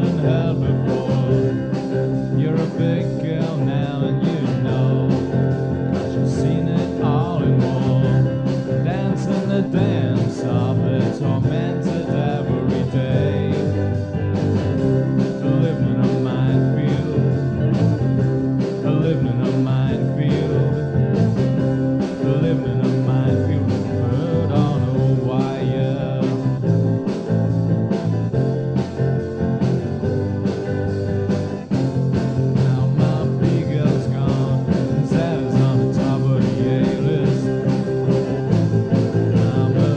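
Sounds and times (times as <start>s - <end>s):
band playing country rock song: 0.0s - 39.9s
steady drum beat: 0.0s - 39.9s.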